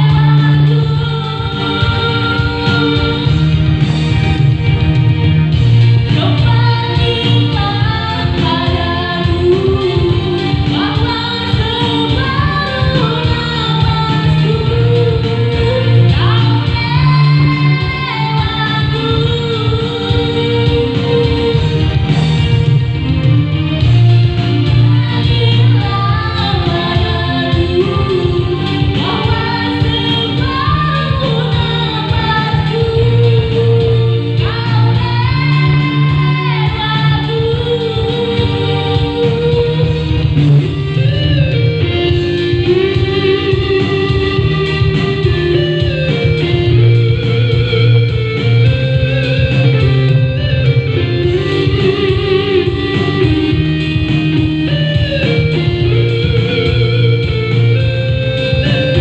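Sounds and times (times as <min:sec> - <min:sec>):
woman singing into microphone: 0:00.0 - 0:04.9, 0:05.5 - 0:59.0
electronic keyboard accompaniment: 0:00.0 - 0:59.0
steady low beat: 0:01.9 - 0:11.1, 0:12.1 - 0:59.0.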